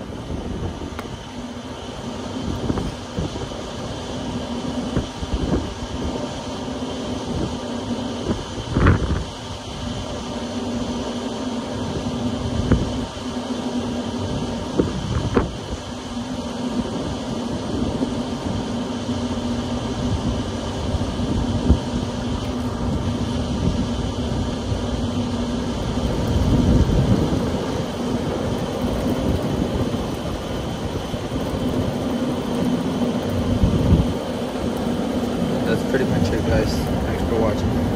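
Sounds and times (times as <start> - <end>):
fan blade whoosh: 0.0 - 37.9
low motor hum: 0.0 - 37.9.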